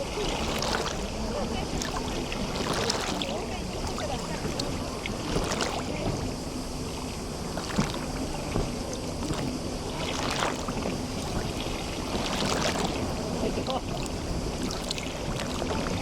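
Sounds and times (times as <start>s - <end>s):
small waves lapping at shore: 0.0s - 16.0s.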